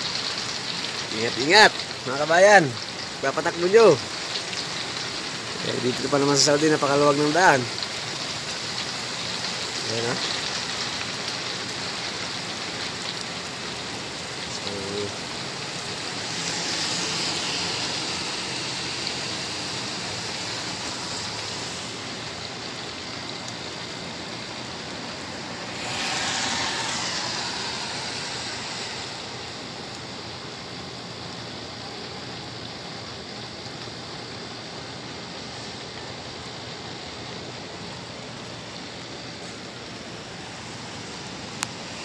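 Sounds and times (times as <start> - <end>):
steady rain: 0.0 - 42.0
tyres hissing on wet road: 0.0 - 42.0.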